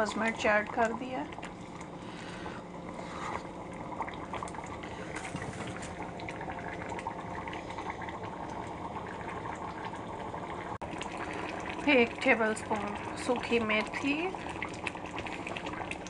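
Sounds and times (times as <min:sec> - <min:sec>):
thick curry bubbling in a pot: 0:02.9 - 0:16.0.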